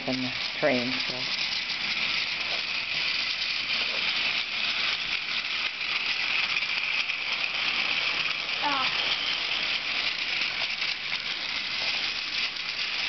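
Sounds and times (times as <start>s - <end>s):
toy train motors whirring: 0.0s - 13.0s
wheels rattling on plastic track: 0.0s - 13.0s.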